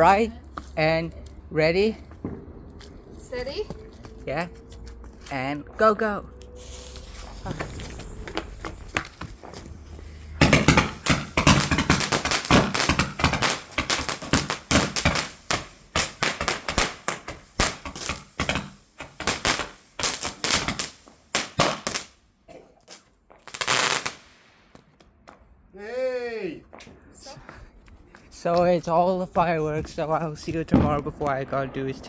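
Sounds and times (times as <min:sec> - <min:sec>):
firework bangs and crackles: 0:00.0 - 0:22.2, 0:22.9 - 0:25.4, 0:26.7 - 0:32.0.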